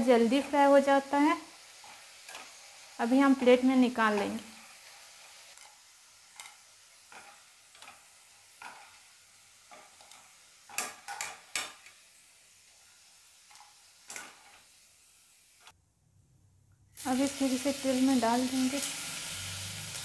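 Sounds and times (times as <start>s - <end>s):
food sizzling in hot oil: 0.0s - 15.8s, 17.0s - 20.0s.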